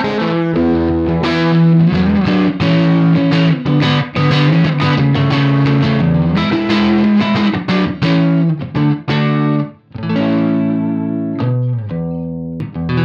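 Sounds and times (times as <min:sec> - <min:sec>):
electric guitar chords: 0:00.0 - 0:13.0.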